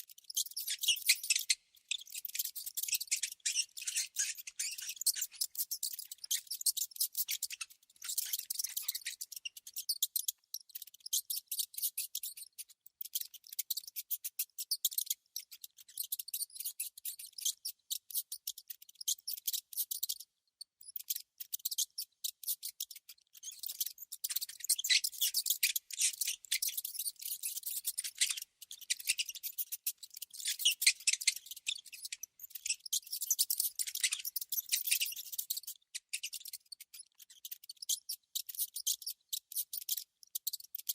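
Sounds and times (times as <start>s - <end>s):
rodents clicking and scratching: 0.1s - 20.2s, 20.8s - 40.9s.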